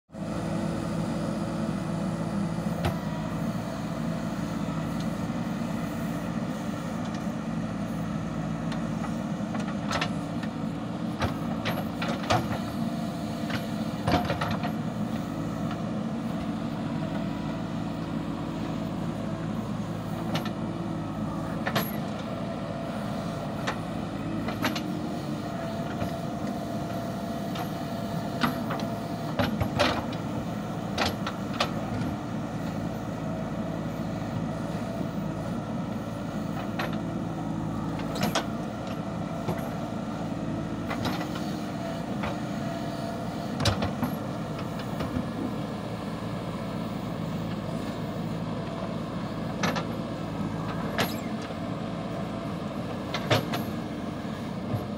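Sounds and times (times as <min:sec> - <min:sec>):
diesel engine running under load: 0:00.1 - 0:54.9.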